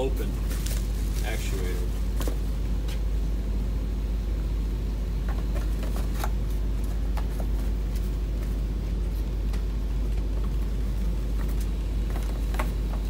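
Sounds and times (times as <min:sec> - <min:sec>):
air-handling machinery drone: 0:00.0 - 0:13.0.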